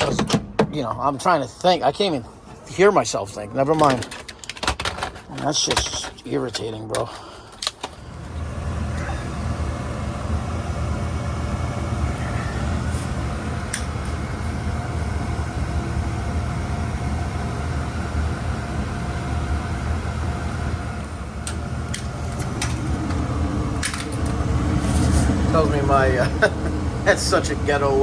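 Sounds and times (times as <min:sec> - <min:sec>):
furnace motor humming: 0:00.0 - 0:28.0.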